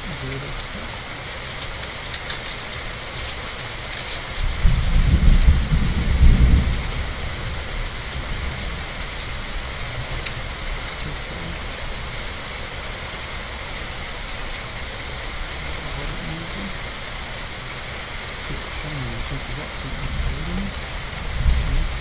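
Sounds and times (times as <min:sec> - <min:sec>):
steady rain: 0:00.0 - 0:22.0
thunder rumble: 0:00.0 - 0:22.0.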